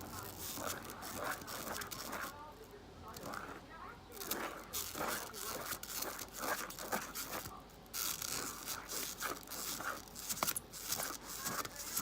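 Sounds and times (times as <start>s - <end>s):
scraping in a plastic bowl: 0.0s - 2.4s, 3.1s - 12.0s.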